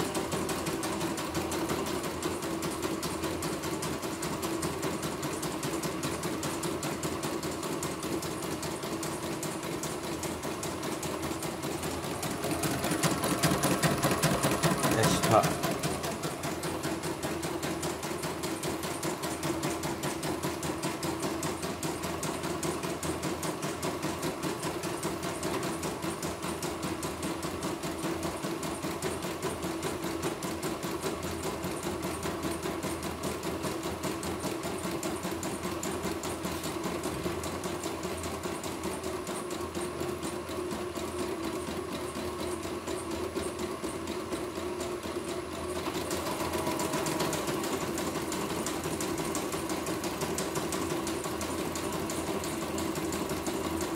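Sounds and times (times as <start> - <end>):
embroidery machine stitching: 0.0 - 53.9.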